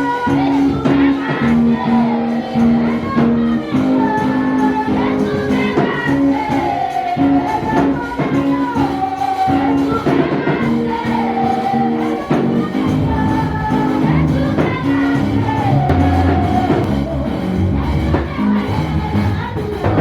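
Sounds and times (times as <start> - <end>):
instrumental accompaniment: 0.0 - 20.0
steady percussive beat: 0.0 - 20.0
voices singing church music: 0.0 - 20.0.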